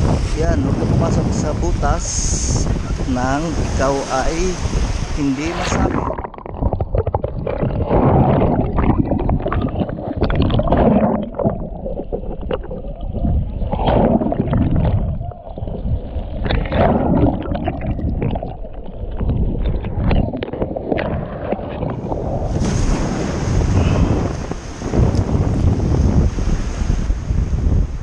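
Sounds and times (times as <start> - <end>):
muffled underwater surf churning: 0.0 - 28.0.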